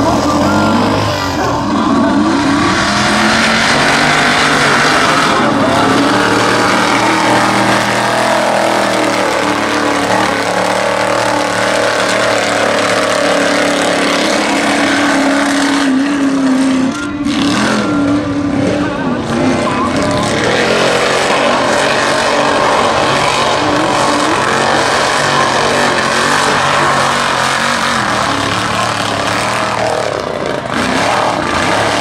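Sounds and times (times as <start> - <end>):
truck engine running hard: 0.0 - 32.0.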